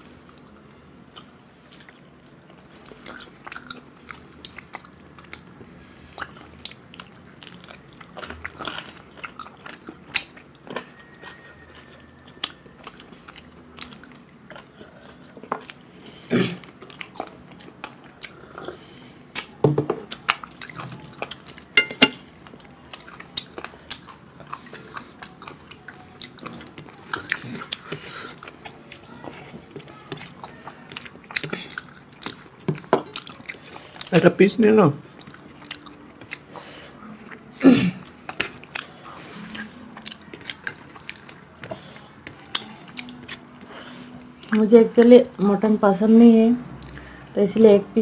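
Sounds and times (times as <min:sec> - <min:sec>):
wet chewing and crunching: 0:00.0 - 0:45.8, 0:46.6 - 0:47.3.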